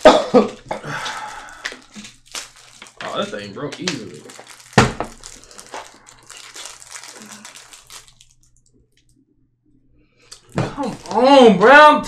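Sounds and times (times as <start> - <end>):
plastic packaging crinkling: 0.0 - 9.2, 10.3 - 11.6.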